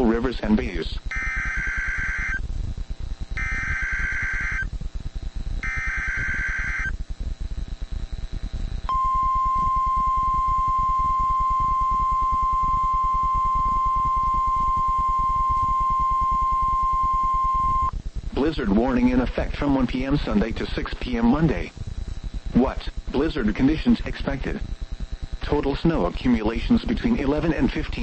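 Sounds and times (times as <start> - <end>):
radio static: 0.0 - 2.4, 3.4 - 4.8, 5.4 - 7.2, 8.7 - 28.0
buzzy data bursts: 0.0 - 28.0
steady warning alarm tone: 1.1 - 2.5, 3.4 - 4.8, 5.4 - 28.0.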